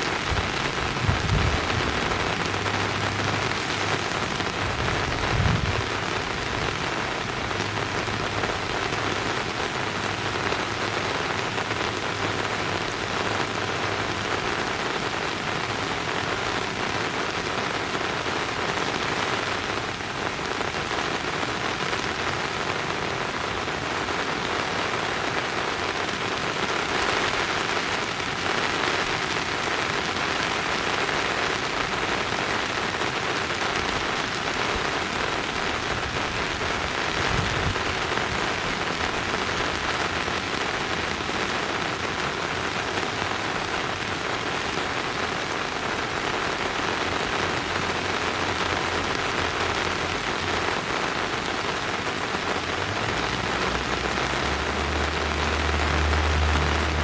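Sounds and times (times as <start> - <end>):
hiss of falling water: 0.0 - 57.0.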